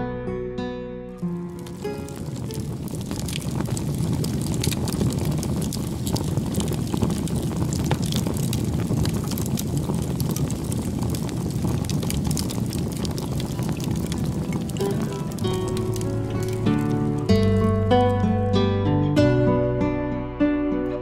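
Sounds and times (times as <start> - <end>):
wood fire crackling: 1.2 - 18.8
low fire rumble: 1.2 - 19.2.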